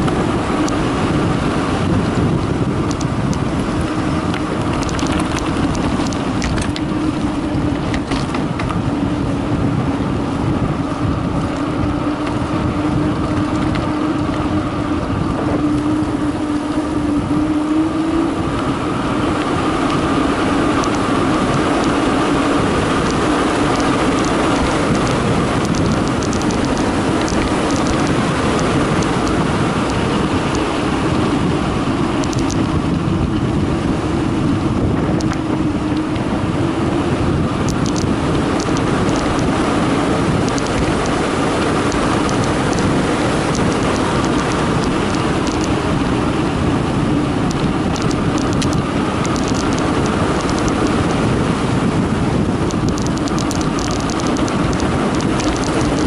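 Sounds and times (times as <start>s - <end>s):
bike rattles: 0.0s - 56.0s
wind noise on microphone: 0.0s - 56.0s.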